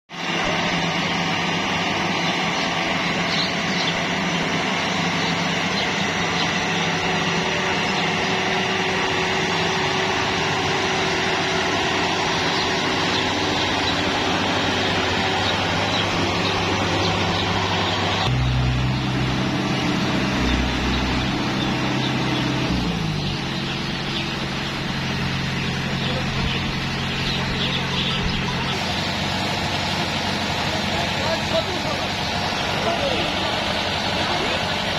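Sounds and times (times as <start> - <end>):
combine harvester running: 0.1 - 34.9.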